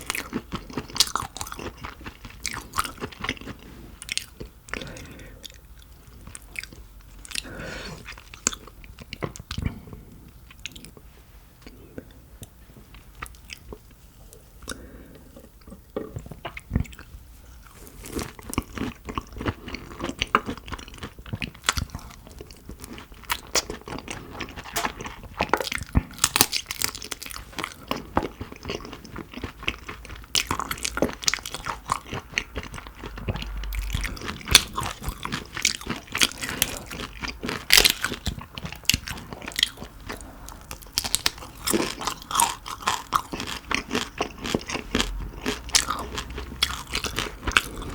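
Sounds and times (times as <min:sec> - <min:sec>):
crunchy chewing of shrimp: 0:00.0 - 0:11.1, 0:11.7 - 0:47.9.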